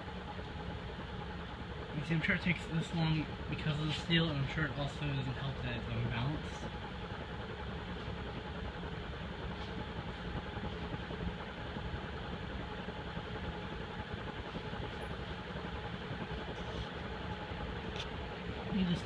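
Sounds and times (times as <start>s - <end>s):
ceiling fan whirring: 0.0s - 19.0s
faint motor hum: 0.0s - 19.0s.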